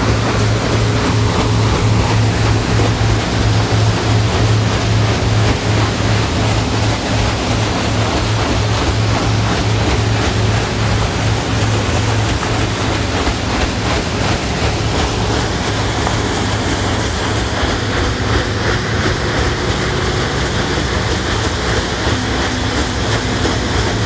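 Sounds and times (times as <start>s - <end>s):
paddlewheel churning water: 0.0s - 24.0s
steady low hum: 0.0s - 24.0s.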